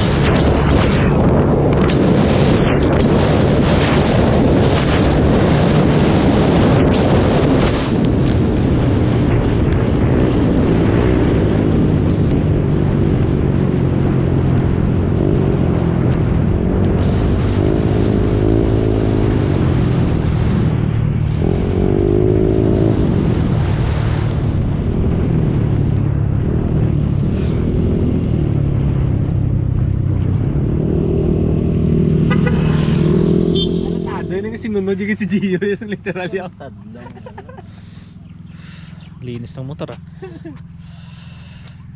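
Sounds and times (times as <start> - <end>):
wind noise on microphone: 0.0 - 34.1
motorcycle engine running: 0.0 - 41.9.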